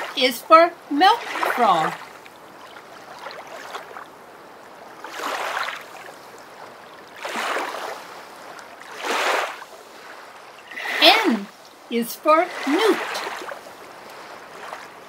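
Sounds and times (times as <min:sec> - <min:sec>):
washing water swells: 0:01.1 - 0:15.0.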